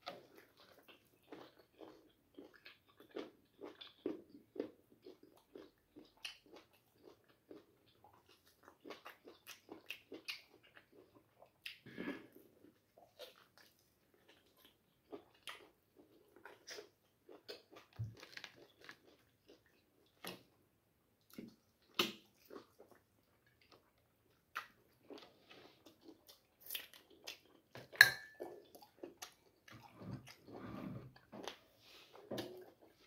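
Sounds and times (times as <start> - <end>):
person chewing meat: 0.0 - 20.5, 21.3 - 30.6.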